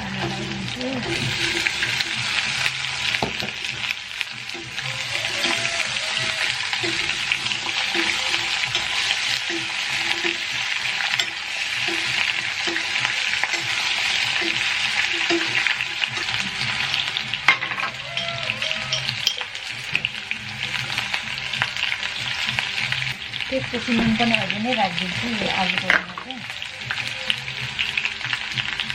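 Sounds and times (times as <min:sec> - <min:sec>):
food sizzling in hot oil: 0:00.0 - 0:28.9.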